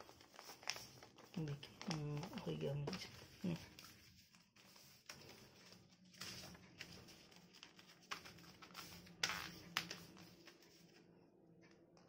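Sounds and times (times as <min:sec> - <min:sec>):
paper rustling and crinkling: 0:00.0 - 0:11.1.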